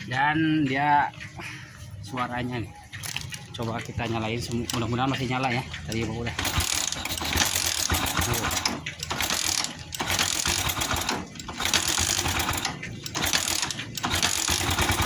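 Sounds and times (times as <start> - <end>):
motorcycle engine cranking: 2.9 - 15.0.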